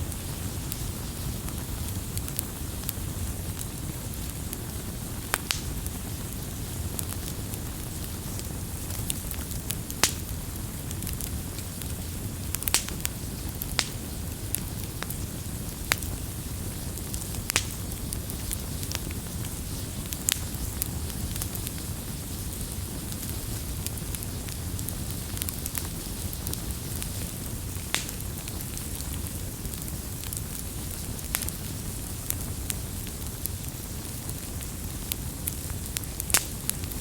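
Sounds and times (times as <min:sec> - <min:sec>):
sharp pops of fire: 0:00.0 - 0:37.0
wood fire crackling: 0:00.0 - 0:37.0.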